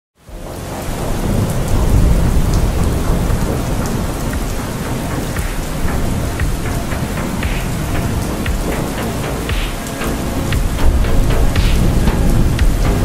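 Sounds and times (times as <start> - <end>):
heavy rainfall: 0.2 - 13.0
thunder rumbling: 0.3 - 13.0.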